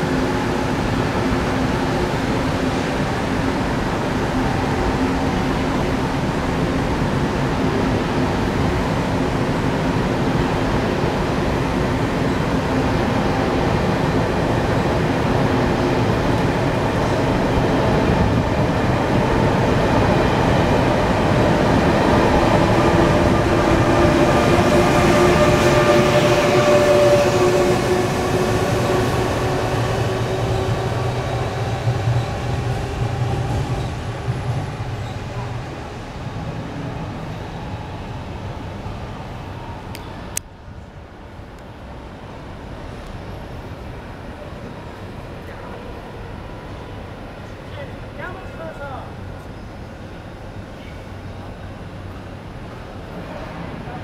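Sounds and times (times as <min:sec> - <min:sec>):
faint train whine: 0:00.0 - 0:54.0
train rumbling on rails: 0:00.0 - 0:54.0.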